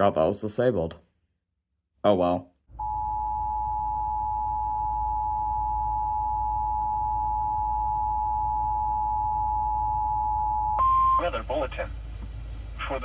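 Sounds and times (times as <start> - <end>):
low background hum: 2.0 - 13.0.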